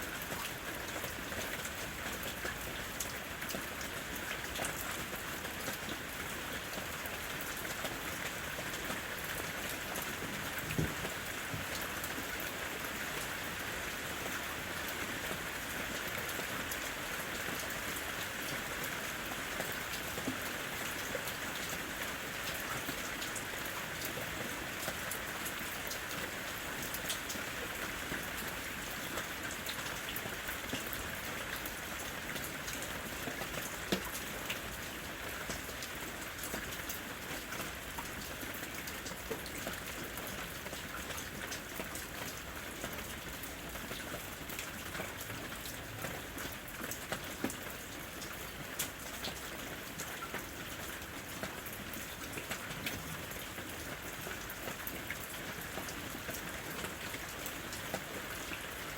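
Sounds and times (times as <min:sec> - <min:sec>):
steady rain in a forest: 0:00.0 - 0:58.9
raindrops ticking close by: 0:00.1 - 0:58.9.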